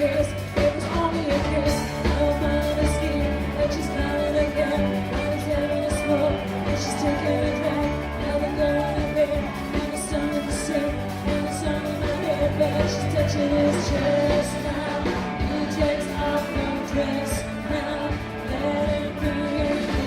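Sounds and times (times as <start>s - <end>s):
pop rock music with singing: 0.0s - 20.0s.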